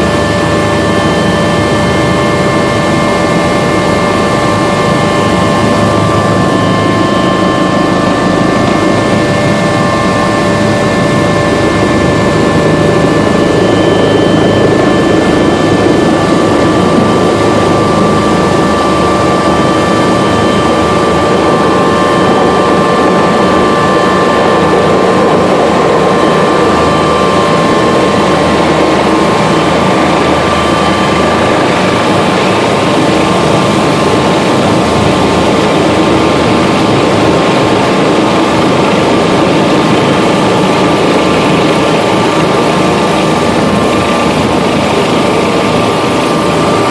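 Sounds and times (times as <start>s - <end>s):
helicopter engine and rotor noise: 0.0s - 46.9s
high whine: 0.0s - 46.9s.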